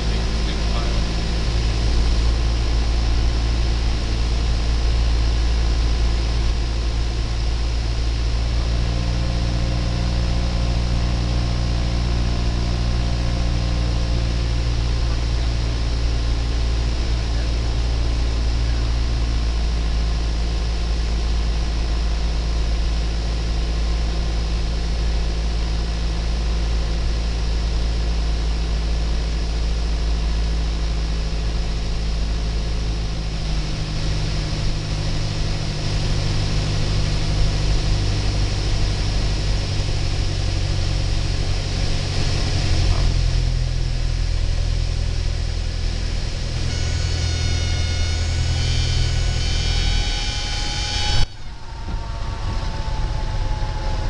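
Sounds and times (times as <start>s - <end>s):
light aircraft engine and propeller droning: 0.0s - 54.0s.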